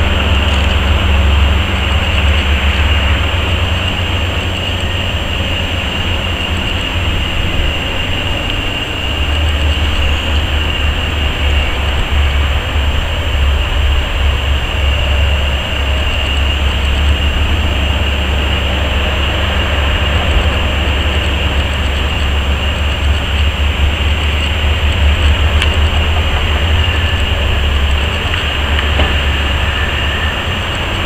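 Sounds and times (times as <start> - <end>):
dump truck engine rumbling: 0.0 - 31.0
excavator diesel engine rumbling: 0.0 - 31.0.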